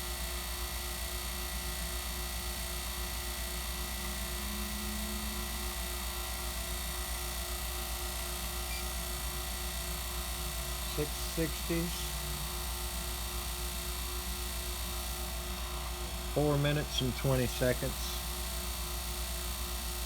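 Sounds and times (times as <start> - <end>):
vacuum pump humming: 0.0 - 20.0.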